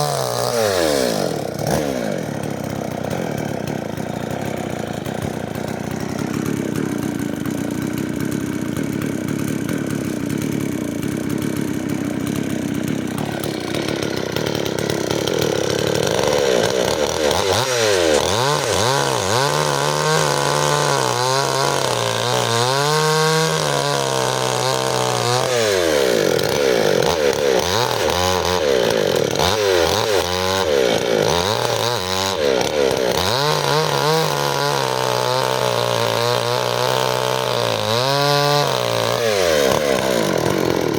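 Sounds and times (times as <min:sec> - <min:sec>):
chainsaw engine revving and bogging: 0:00.0 - 0:40.9.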